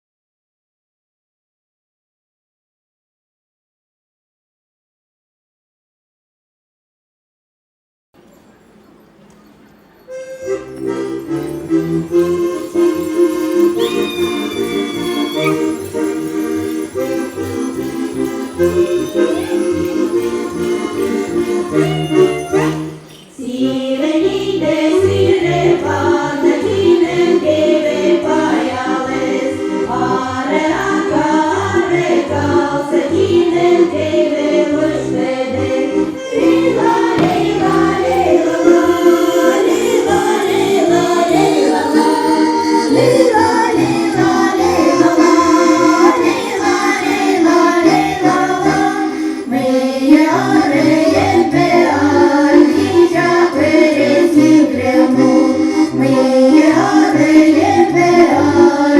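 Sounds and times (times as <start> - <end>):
folk ensemble singing in chorus: 10.9 - 58.9.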